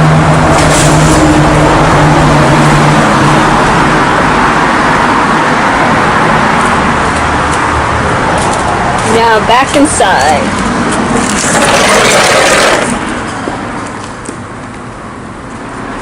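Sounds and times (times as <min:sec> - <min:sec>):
loud rushing noise: 0:00.0 - 0:13.8.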